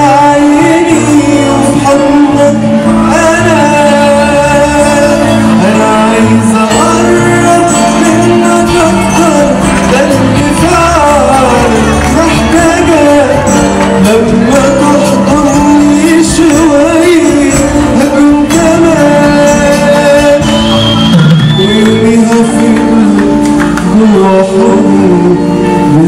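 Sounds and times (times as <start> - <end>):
backing band playing: 0.0 - 26.0
man singing into a microphone: 0.0 - 26.0.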